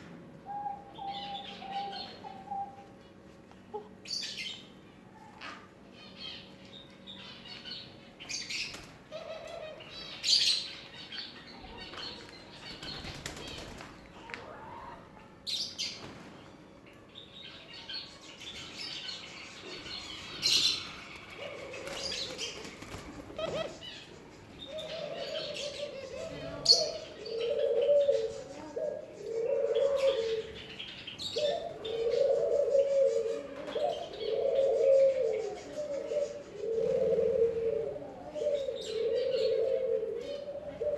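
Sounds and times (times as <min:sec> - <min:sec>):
pigeons cooing: 0:00.0 - 0:04.6, 0:08.3 - 0:16.0, 0:17.6 - 0:40.9.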